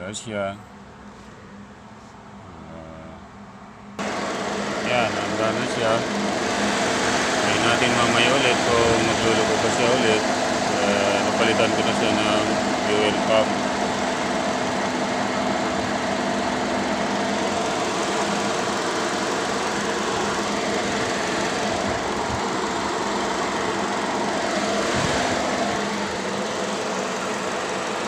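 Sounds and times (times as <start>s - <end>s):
car engine idling: 3.0s - 28.0s.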